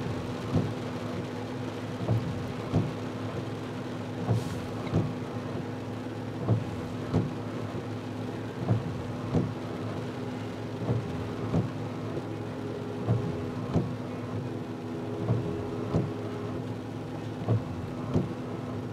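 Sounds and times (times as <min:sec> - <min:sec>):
windshield wipers thumping: 0:00.0 - 0:01.3, 0:01.9 - 0:18.9
car engine idling: 0:00.0 - 0:18.9.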